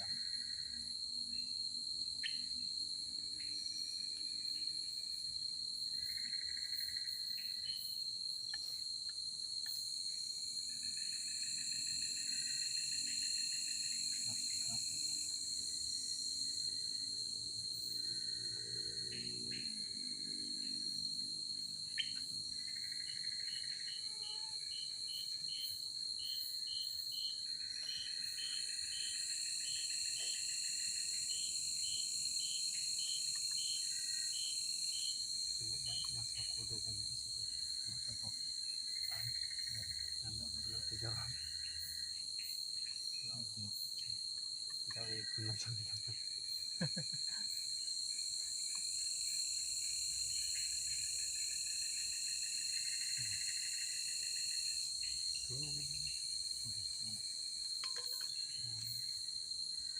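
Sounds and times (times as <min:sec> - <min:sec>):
insect buzzing call: 0:00.0 - 0:59.9
insect high trill: 0:00.0 - 0:59.9.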